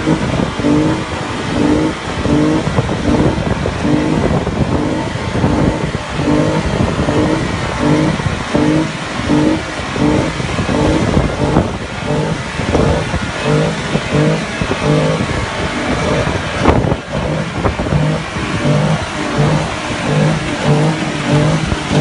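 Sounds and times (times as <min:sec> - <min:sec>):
car engine revving: 0:00.0 - 0:22.0
loud rushing noise: 0:00.0 - 0:22.0.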